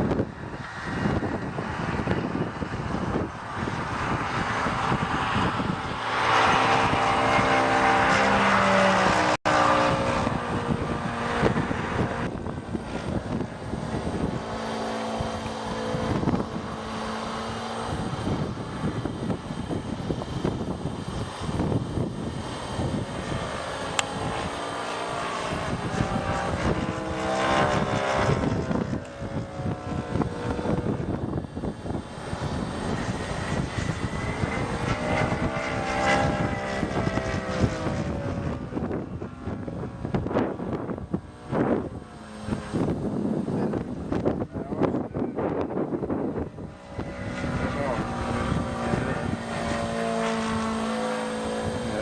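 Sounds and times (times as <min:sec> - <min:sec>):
gusty rushing noise: 0:00.0 - 0:52.0
model airplane motor droning: 0:00.0 - 0:52.0.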